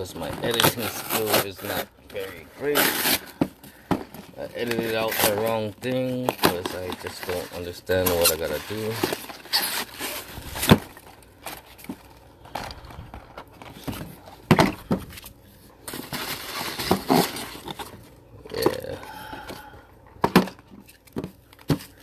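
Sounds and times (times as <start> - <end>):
packaging rustling: 0.0 - 19.6.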